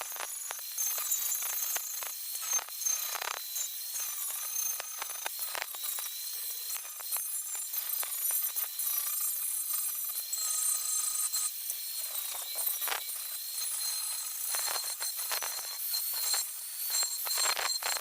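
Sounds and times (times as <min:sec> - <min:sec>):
arc welding crackling hiss: 0:00.0 - 0:18.0.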